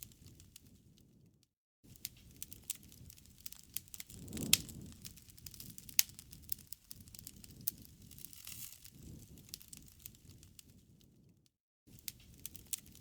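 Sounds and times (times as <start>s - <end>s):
wood crackling and popping: 0.0s - 1.3s, 1.9s - 13.0s
low rush of flame: 2.1s - 12.9s.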